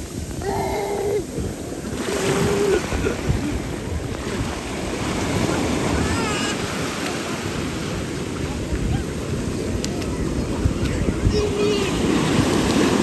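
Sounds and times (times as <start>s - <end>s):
sea waves washing onto beach: 0.0s - 13.0s
wind rumbling on microphone: 0.0s - 13.0s.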